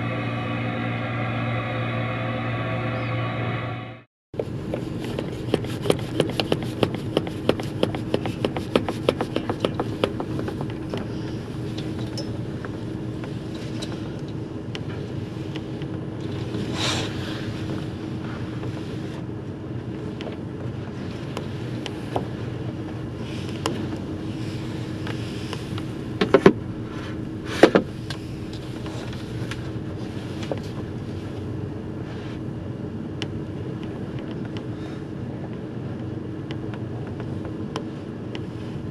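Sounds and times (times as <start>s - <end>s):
ferry engine drone: 0.0s - 38.9s
wind and sea noise: 0.0s - 38.9s.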